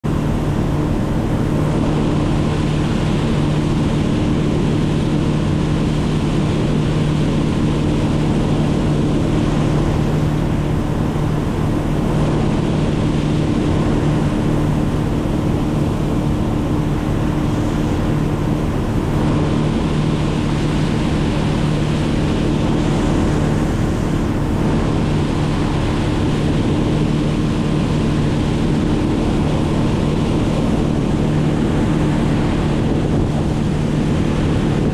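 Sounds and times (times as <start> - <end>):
engine droning steadily: 0.0 - 34.9.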